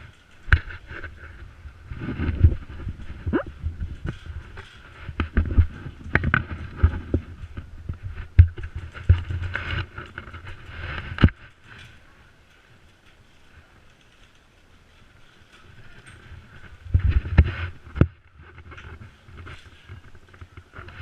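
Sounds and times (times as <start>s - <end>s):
gear moving and rustling: 0.0s - 21.0s.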